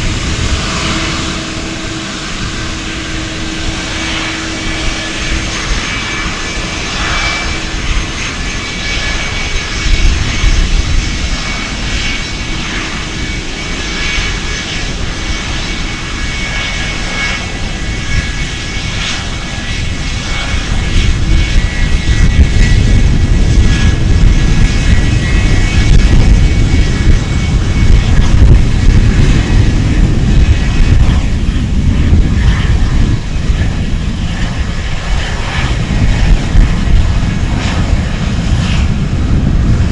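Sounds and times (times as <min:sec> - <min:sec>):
aeroplane engines whining: 0:00.0 - 0:39.9.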